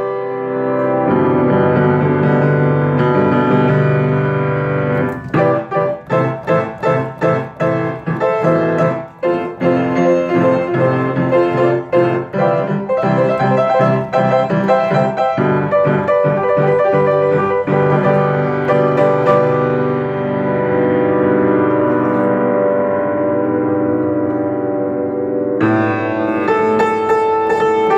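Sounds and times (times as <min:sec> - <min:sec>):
piano playing chords: 0:00.0 - 0:27.9.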